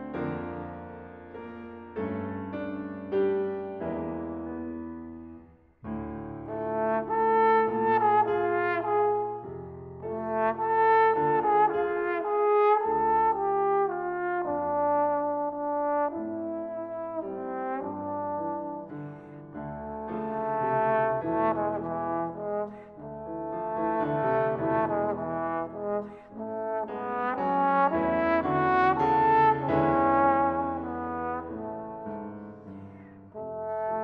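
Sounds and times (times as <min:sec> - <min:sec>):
piano accompaniment: 0:00.0 - 0:34.0
trombone melody: 0:06.4 - 0:34.0.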